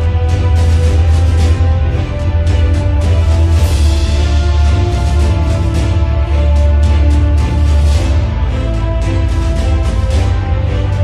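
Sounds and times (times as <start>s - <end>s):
synth music with heavy bass beat: 0.0s - 11.0s.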